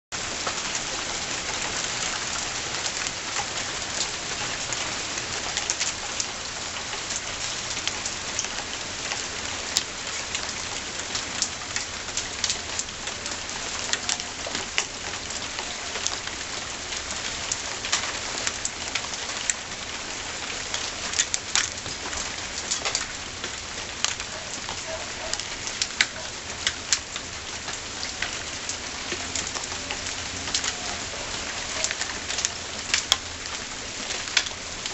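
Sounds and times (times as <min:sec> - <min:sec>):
rain on a hard surface: 0:00.1 - 0:34.9.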